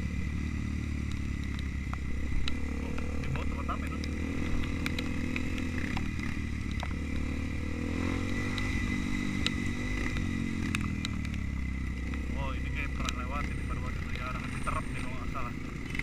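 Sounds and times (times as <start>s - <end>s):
motorcycle engine running: 0.0s - 16.0s
sharp clicks and rattles: 1.0s - 7.3s, 8.4s - 16.0s.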